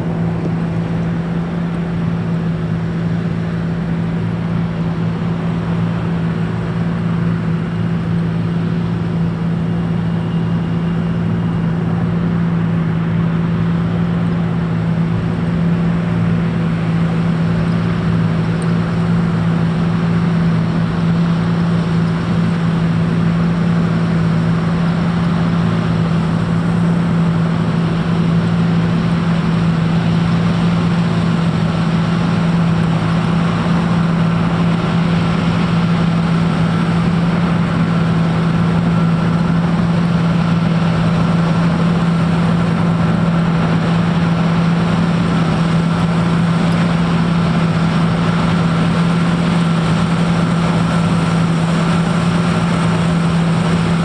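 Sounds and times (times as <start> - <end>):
combine harvester humming: 0.0 - 54.0
faint high whine: 0.0 - 54.0.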